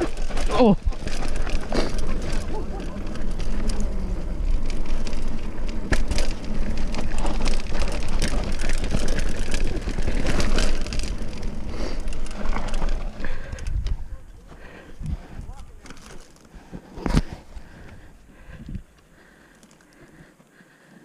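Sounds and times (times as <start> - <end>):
tyres crunching over dirt and stones: 0.0 - 20.3
bike rattling: 0.0 - 21.0
wind buffeting microphone: 0.2 - 15.8, 17.6 - 19.0.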